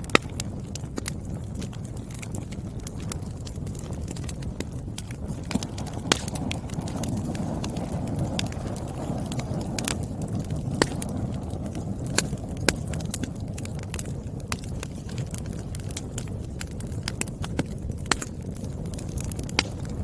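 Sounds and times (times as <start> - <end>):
burning wood crackling and popping: 0.0 - 20.0
fire burning with low rush: 0.0 - 20.0.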